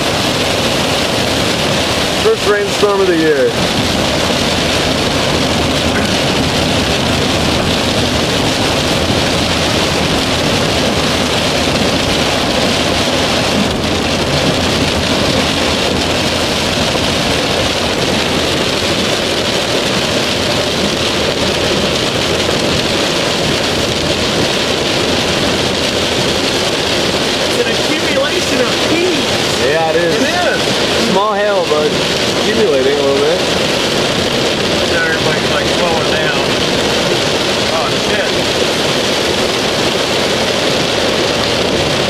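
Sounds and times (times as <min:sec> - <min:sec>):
heavy rain on car roof: 0:00.0 - 0:42.0
tyre and road noise: 0:00.0 - 0:42.0.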